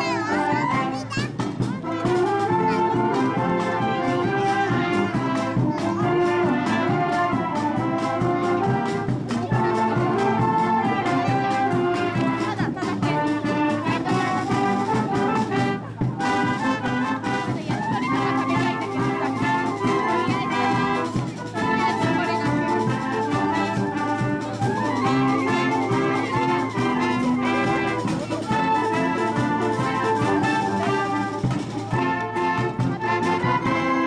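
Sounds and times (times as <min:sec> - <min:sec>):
trumpets and trombones: 0:00.0 - 0:34.0
wind band playing: 0:00.0 - 0:34.0.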